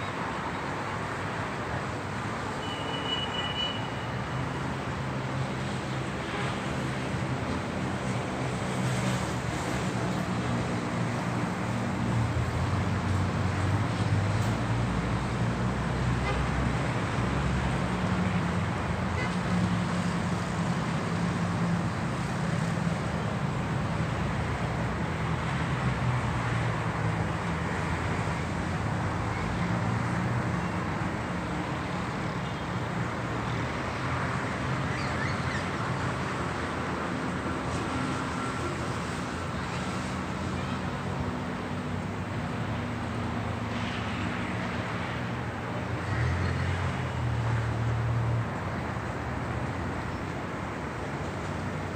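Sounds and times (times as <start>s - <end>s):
road traffic noise: 0.0s - 51.9s.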